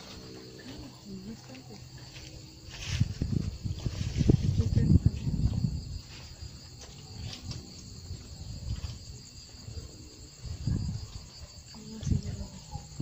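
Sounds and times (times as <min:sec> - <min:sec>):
footsteps rustling and thumping: 0:00.0 - 0:11.6
crickets chirping: 0:00.0 - 0:13.0.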